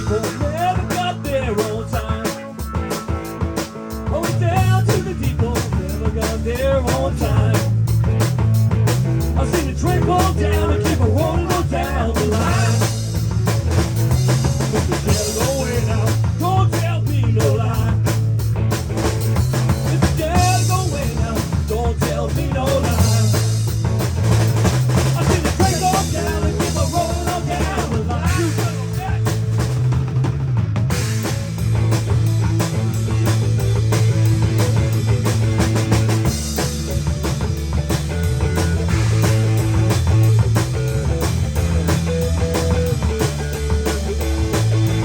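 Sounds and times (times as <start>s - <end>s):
wavering melodic lead line: 0.0s - 18.4s, 19.1s - 45.0s
bass line: 0.0s - 45.0s
drum kit beat: 0.0s - 45.0s
instrumental rock band: 0.0s - 45.0s.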